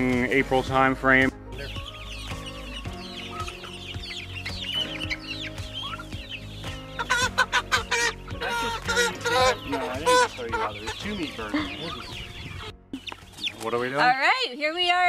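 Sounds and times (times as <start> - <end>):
chickens clucking: 0.0 - 15.0
chickens squawking: 0.0 - 15.0.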